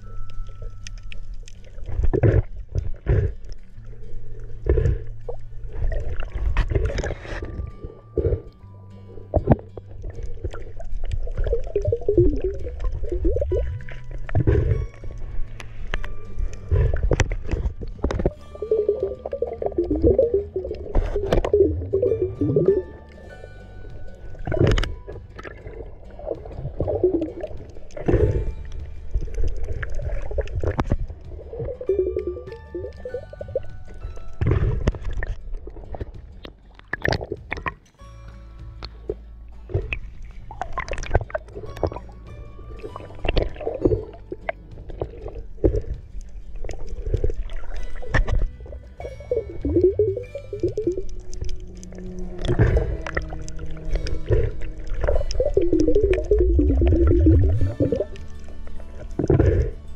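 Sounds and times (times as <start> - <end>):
water splashing and gurgling: 0.0 - 37.9, 38.8 - 59.9.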